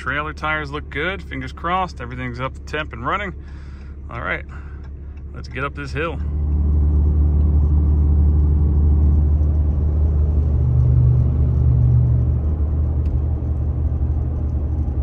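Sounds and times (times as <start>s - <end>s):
low hum: 0.0s - 15.0s
vehicle cab rumble: 0.0s - 15.0s.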